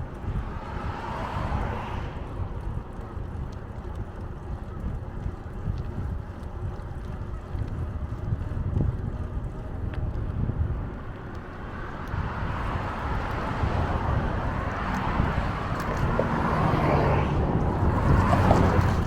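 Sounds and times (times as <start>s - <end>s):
vehicle noise: 0.0s - 19.0s
wind rumbling on microphone: 0.0s - 19.0s.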